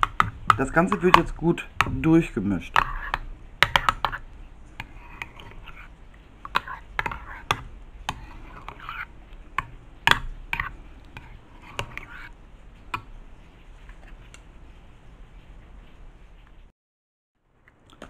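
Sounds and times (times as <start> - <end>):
fork stirring in ceramic bowl: 0.0 - 14.7.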